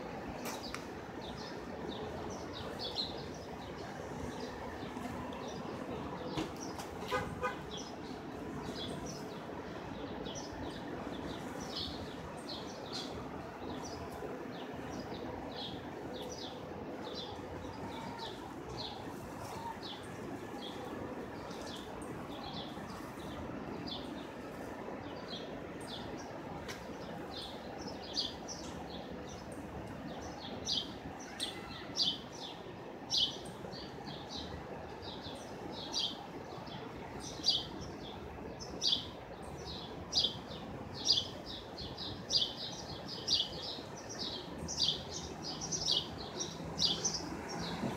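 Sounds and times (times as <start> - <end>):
low city hum: 0.0 - 47.9
small birds chirping: 0.4 - 47.9.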